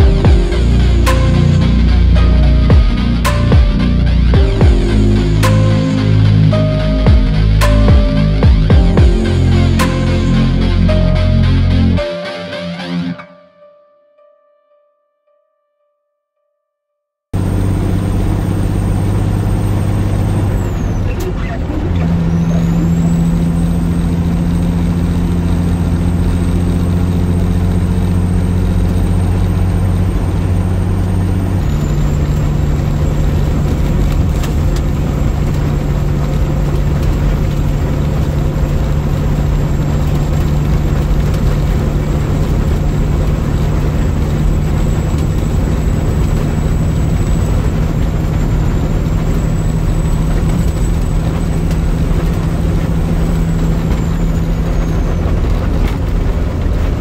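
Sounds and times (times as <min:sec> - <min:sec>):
road noise: 0:00.0 - 0:13.2, 0:17.4 - 0:57.0
truck diesel engine droning: 0:00.0 - 0:13.4, 0:17.4 - 0:57.0.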